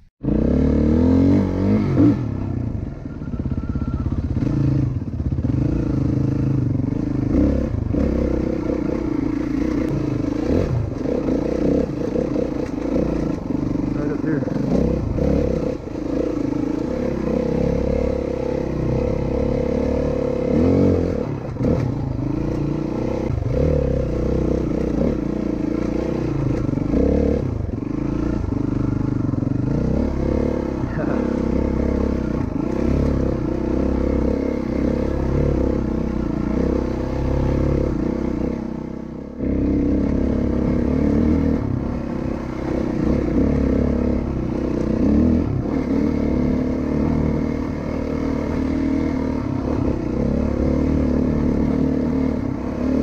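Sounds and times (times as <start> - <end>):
dirt bike engine revving: 0.2 - 53.0.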